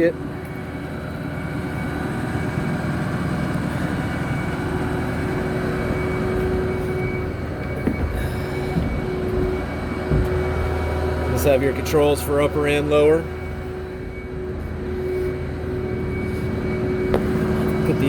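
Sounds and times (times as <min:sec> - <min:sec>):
diesel engine idling: 0:00.0 - 0:18.0
thin steady whine: 0:00.0 - 0:18.0.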